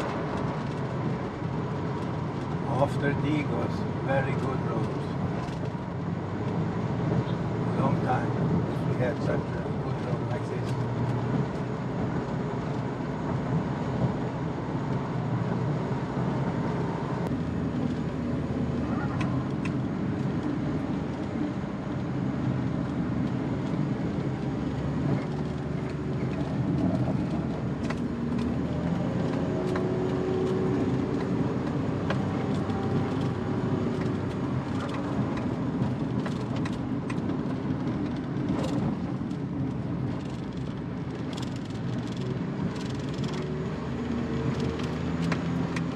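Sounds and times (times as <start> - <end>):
van engine and road noise: 0.0 - 45.9.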